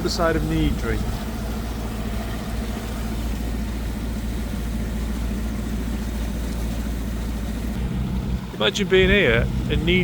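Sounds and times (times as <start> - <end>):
boat engine droning: 0.0 - 10.0
wind and water hiss: 0.0 - 10.0.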